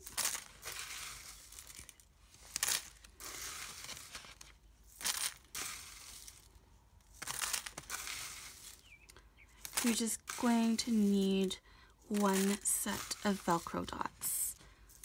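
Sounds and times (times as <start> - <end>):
plastic sleeve crinkling: 0.0 - 11.4, 12.1 - 15.0
sequins rustling against plastic: 0.0 - 15.0.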